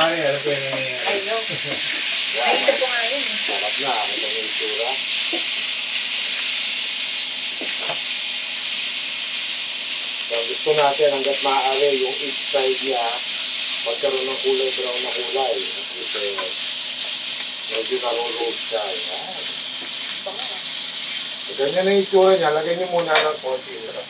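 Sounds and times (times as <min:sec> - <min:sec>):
meat sizzling in a wok: 0:00.0 - 0:24.0.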